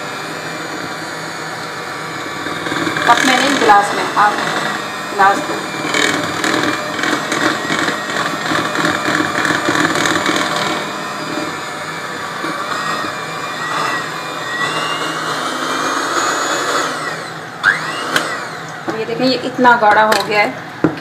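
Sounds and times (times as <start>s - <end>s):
electric hand mixer running: 0.0s - 21.0s.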